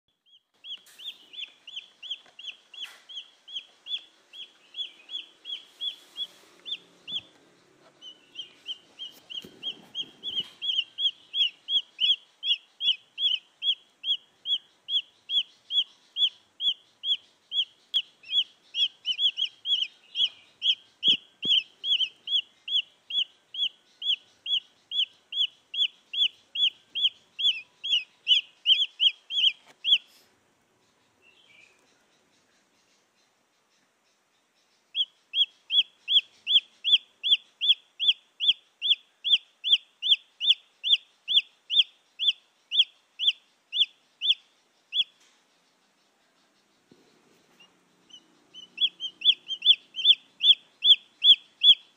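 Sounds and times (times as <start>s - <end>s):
chick peeping: 0.2s - 30.3s, 34.9s - 51.9s.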